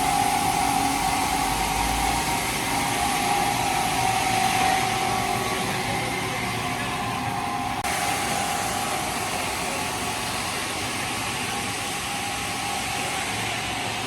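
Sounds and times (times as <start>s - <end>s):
machinery whine: 0.0s - 14.0s.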